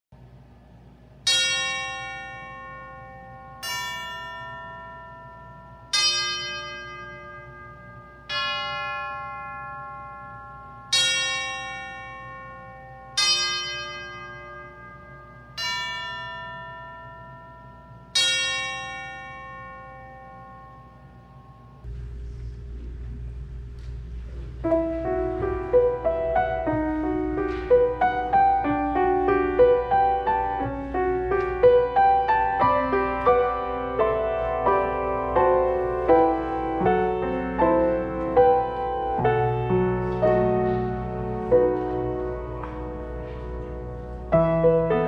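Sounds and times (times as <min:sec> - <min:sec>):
bells struck ringing: 0:01.0 - 0:21.9, 0:25.0 - 0:45.0.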